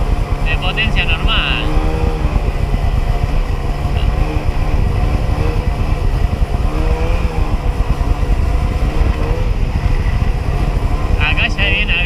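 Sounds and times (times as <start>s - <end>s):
jet ski engine running: 0.0s - 12.0s.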